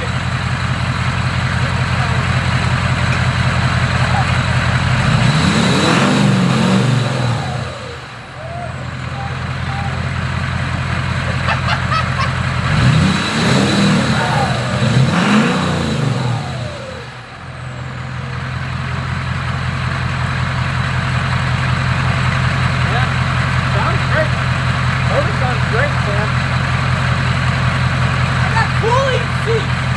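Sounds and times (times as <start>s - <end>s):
diesel engine idling and revving: 0.0s - 29.9s.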